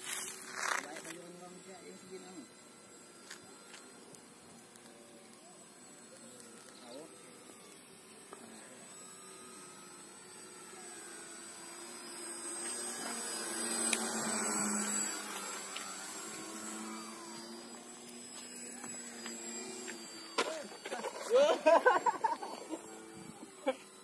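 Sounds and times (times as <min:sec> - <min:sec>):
model airplane motor whining: 0:00.0 - 0:24.0.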